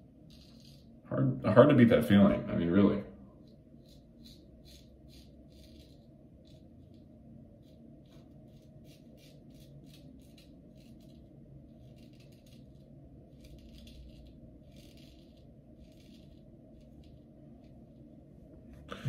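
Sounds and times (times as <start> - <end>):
low room hum: 0.0 - 19.0
razor scraping stubble: 0.3 - 1.0, 3.4 - 18.0.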